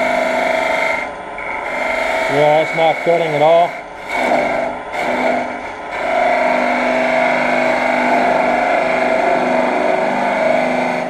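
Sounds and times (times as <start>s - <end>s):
tool scraping spinning wood: 0.0s - 11.0s
wood lathe drone: 0.0s - 11.0s.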